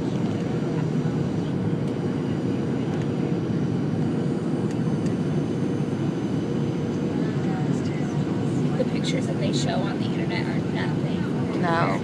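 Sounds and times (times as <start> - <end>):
aircraft engine rumble in cabin: 0.0 - 12.0.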